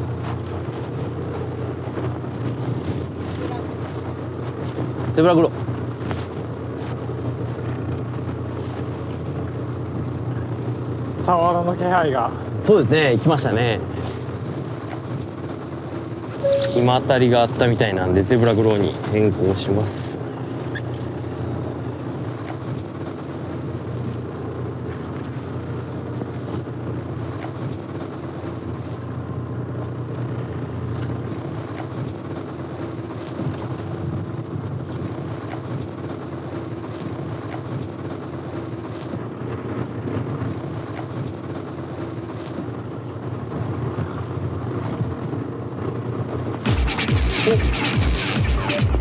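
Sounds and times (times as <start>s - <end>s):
wind and water hiss: 0.0s - 46.7s
boat engine humming: 0.0s - 49.0s.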